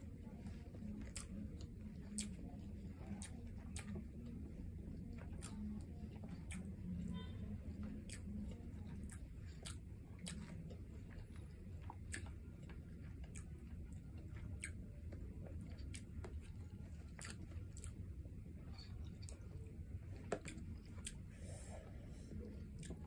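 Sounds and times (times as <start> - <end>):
close chewing: 0.0 - 23.0
low steady hum: 0.0 - 23.0.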